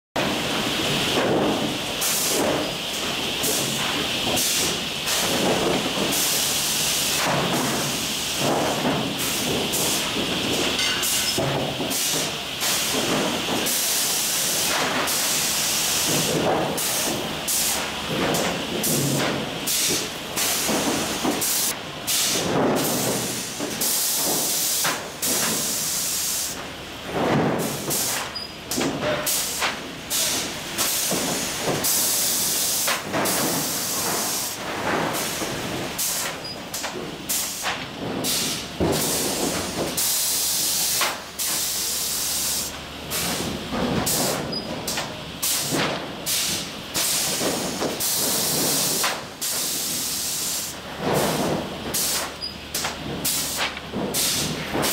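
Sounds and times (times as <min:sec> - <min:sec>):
boards knocking and clattering: 0:00.2 - 0:06.4, 0:07.1 - 0:15.1, 0:15.9 - 0:21.7, 0:22.4 - 0:25.7, 0:27.1 - 0:41.2, 0:43.2 - 0:49.4, 0:50.9 - 0:54.9
pneumatic air hissing: 0:01.5 - 0:26.6, 0:27.6 - 0:54.9.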